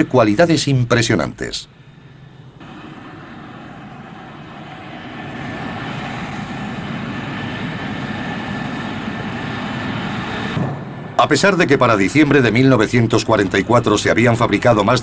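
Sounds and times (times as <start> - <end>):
aircraft engine whining: 1.7 - 15.0.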